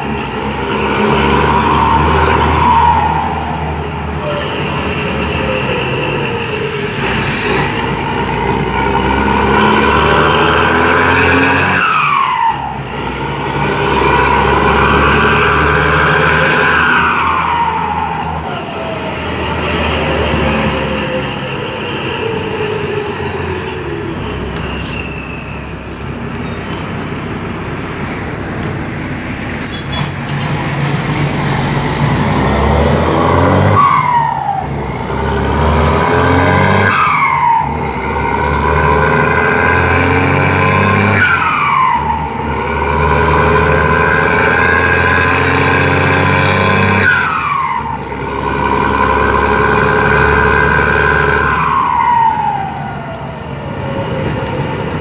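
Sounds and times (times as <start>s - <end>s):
bus engine: 0.0s - 55.0s.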